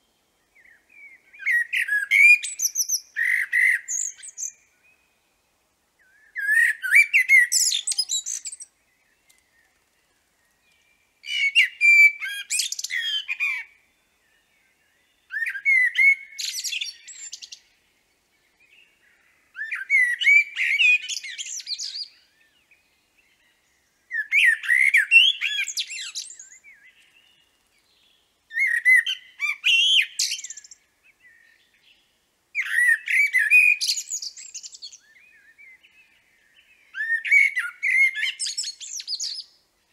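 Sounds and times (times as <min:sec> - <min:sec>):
blackbird singing: 0:00.0 - 0:05.4, 0:06.0 - 0:39.9.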